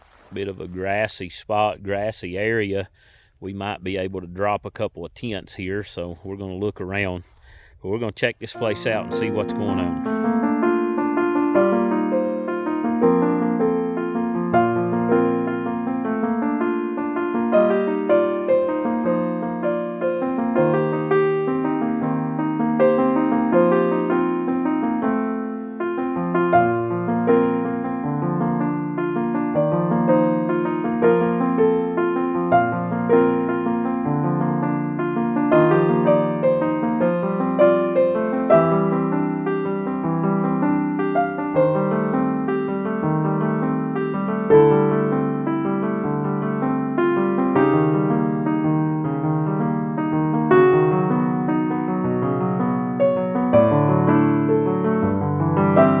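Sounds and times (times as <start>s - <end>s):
gentle electric piano: 8.6s - 56.0s.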